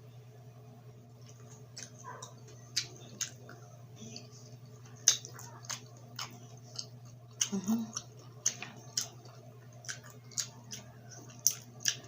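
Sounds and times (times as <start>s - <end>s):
steady low hum: 0.0s - 12.0s
mouth clicks and smacks chewing: 1.2s - 3.6s, 4.2s - 12.0s.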